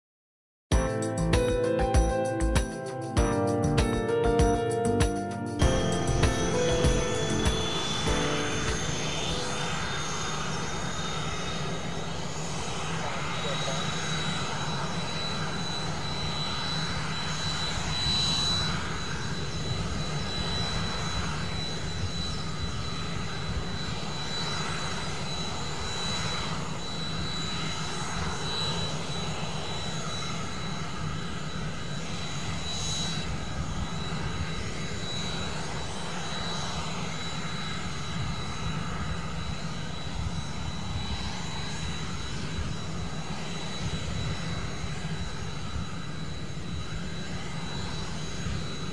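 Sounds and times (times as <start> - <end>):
low engine and rotor rumble: 0.7 - 48.9
high-pitched turbine whine: 0.8 - 48.9.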